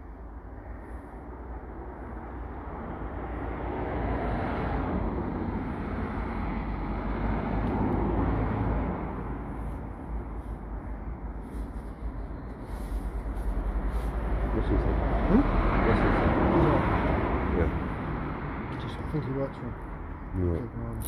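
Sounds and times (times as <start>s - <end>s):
passing vehicle engine and tyres: 0.0s - 21.0s.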